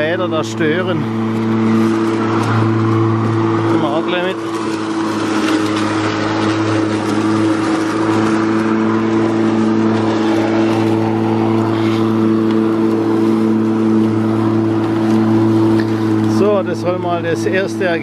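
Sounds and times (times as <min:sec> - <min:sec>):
electric lawn mower humming: 0:00.0 - 0:18.0.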